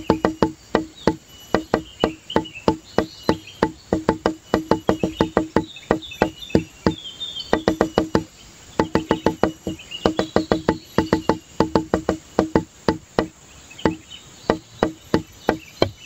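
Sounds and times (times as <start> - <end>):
high chirping: 0.0 - 16.0
rapid hollow knocks: 0.0 - 16.0.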